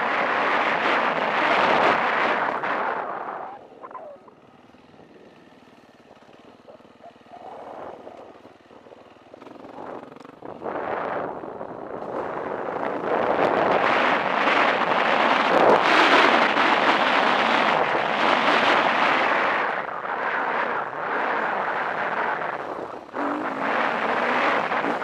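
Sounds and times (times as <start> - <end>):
dirt bike engine running: 0.0 - 25.0
wind on microphone: 0.0 - 25.0.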